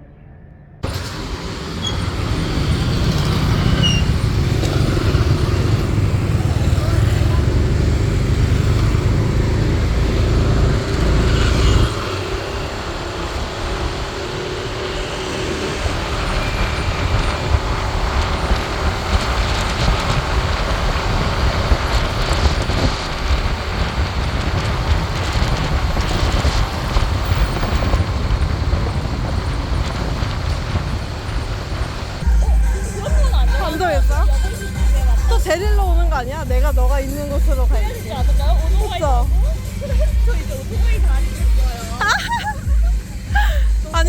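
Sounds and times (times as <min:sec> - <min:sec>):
heavy vehicle rumble: 0:00.8 - 0:44.0
road traffic noise: 0:00.8 - 0:44.0
wind buffeting microphone: 0:00.8 - 0:44.0.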